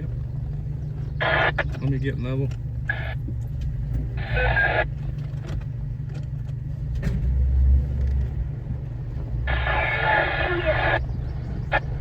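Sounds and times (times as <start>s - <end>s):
vehicle engine running at low speed: 0.0s - 12.0s.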